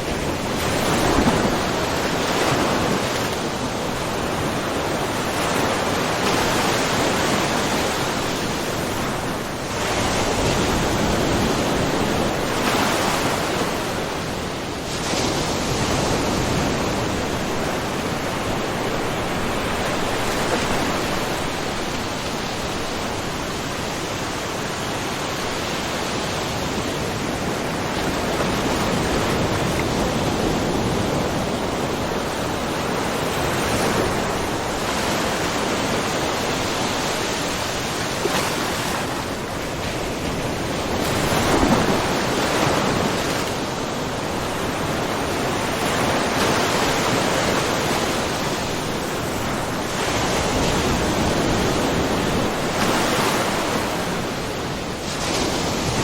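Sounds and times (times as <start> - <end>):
ocean waves washing over rocks: 0.0 - 56.0.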